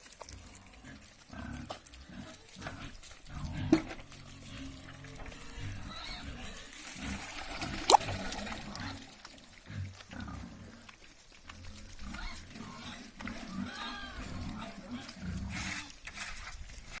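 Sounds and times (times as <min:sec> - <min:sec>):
piglets grunting: 0:00.3 - 0:16.1.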